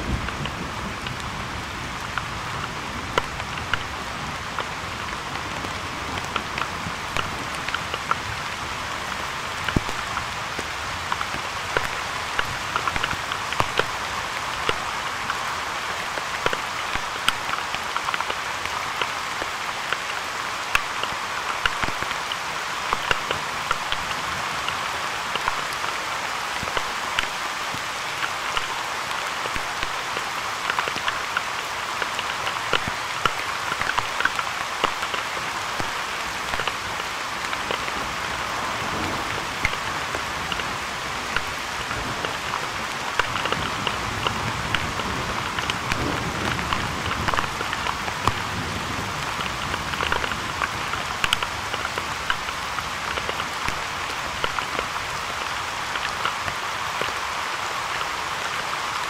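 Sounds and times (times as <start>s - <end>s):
rain falling: 0.0s - 59.0s
raindrops ticking near microphone: 0.0s - 59.0s.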